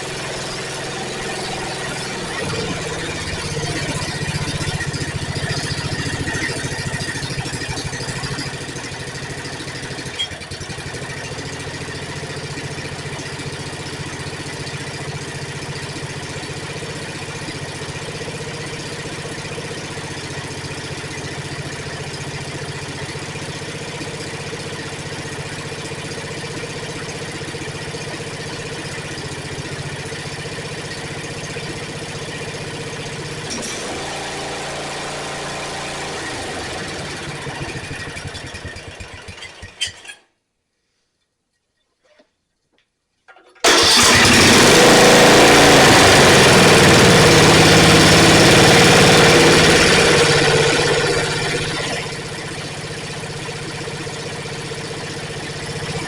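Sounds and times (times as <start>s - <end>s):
mower engine running: 0.0s - 40.2s, 43.6s - 56.0s.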